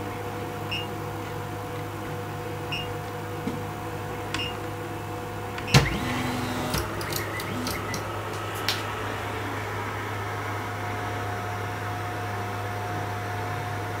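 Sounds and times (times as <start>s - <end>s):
small cooling fan whirring: 0.0s - 14.0s.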